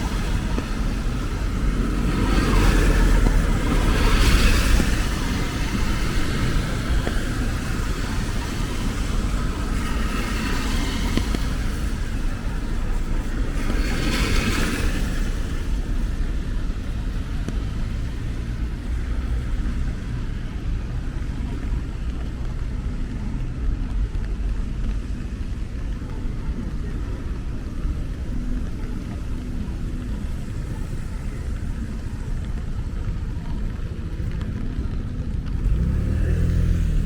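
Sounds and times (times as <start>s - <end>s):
car tyres hissing on wet road: 0.0s - 37.0s
traffic rumble: 0.0s - 37.0s.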